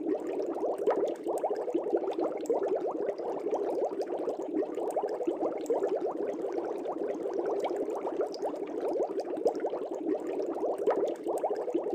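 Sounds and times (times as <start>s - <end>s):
aquarium water bubbling: 0.0s - 11.9s.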